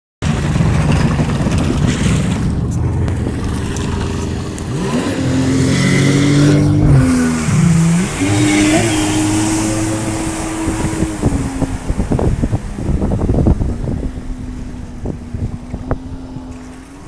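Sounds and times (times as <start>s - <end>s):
churning water: 0.2s - 17.0s
personal watercraft engines: 0.2s - 17.0s.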